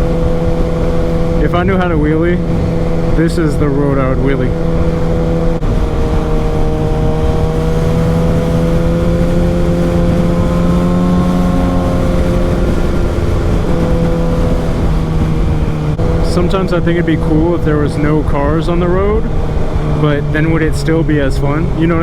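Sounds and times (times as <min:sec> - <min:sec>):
low wind rumble: 0:00.0 - 0:22.0
motorcycle engine cruising: 0:00.0 - 0:22.0.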